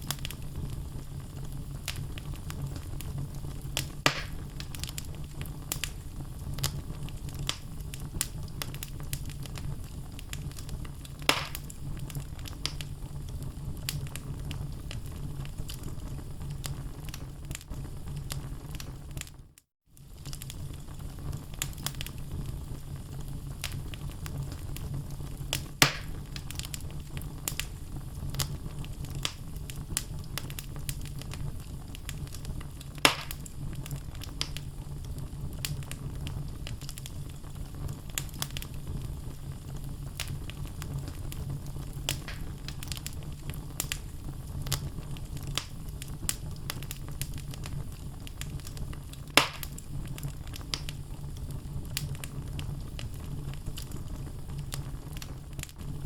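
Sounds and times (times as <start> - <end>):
logs crackling and popping: 0.0 - 19.4, 20.0 - 56.0.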